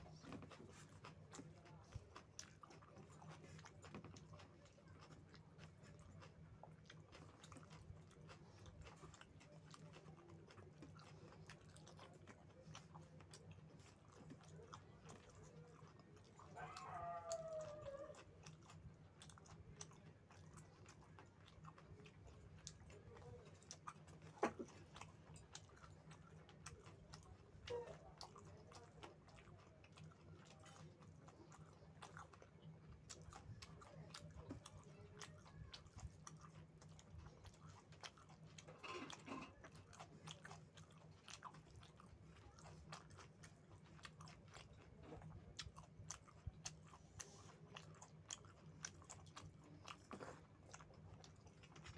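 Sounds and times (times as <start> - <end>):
low steady hum: 0.0 - 51.9
person chewing food: 0.0 - 51.9.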